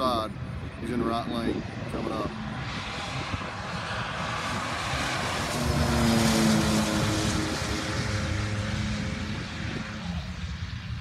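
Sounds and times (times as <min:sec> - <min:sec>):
drag car engines at full throttle: 0:00.0 - 0:11.0.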